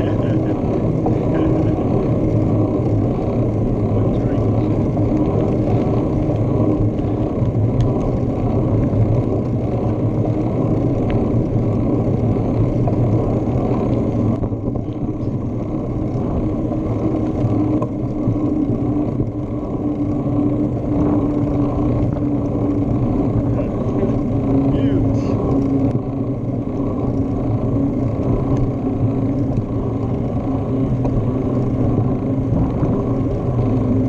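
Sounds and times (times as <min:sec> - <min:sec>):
low tyre hum: 0:00.0 - 0:34.0
wind rushing over microphone: 0:00.0 - 0:34.0.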